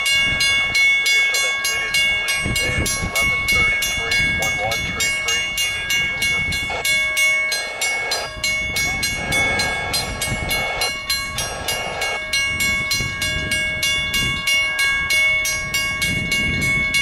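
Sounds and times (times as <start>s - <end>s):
crossing bells ringing rapidly: 0.0s - 17.0s.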